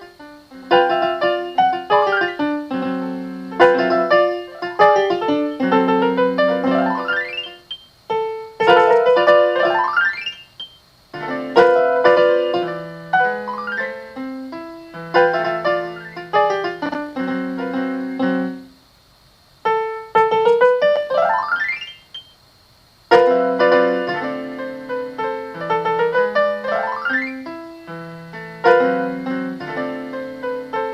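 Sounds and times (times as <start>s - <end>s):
solo piano piece: 0.0s - 18.8s, 19.6s - 22.3s, 23.0s - 30.9s.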